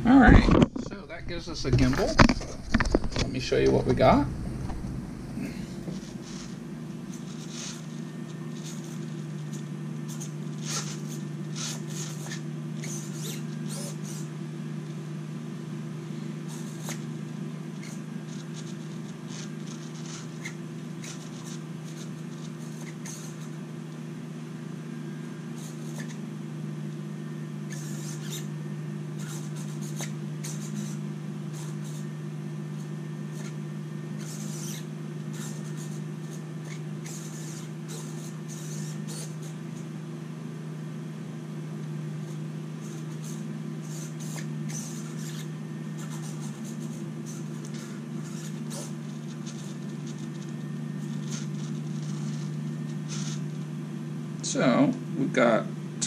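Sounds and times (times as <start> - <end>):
servos whirring: 0.0 - 15.0, 16.0 - 23.7, 27.6 - 39.9, 42.2 - 53.7
steady low hum: 0.0 - 56.0.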